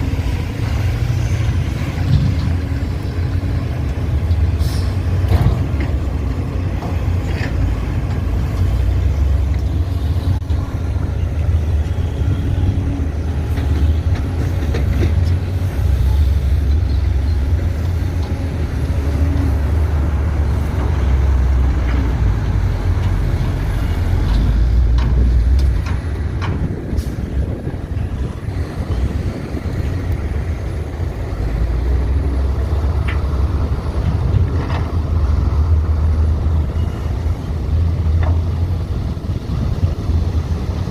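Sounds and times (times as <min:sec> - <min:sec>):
diesel engines rumbling: 0:00.0 - 0:40.9.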